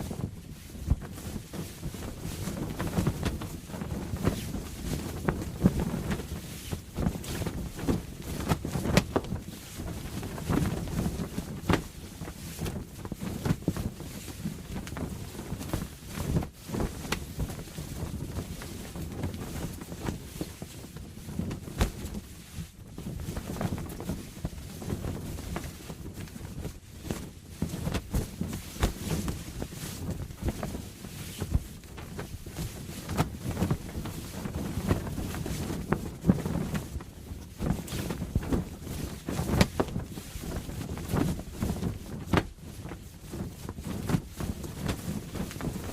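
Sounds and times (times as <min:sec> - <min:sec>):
low rush of wind: 0:00.0 - 0:45.9
sail flapping and snapping: 0:00.0 - 0:45.9.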